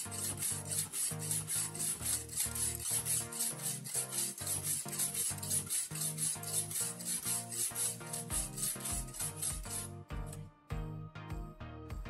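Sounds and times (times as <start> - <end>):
sharpening stone scraping knife: 0.0 - 9.9.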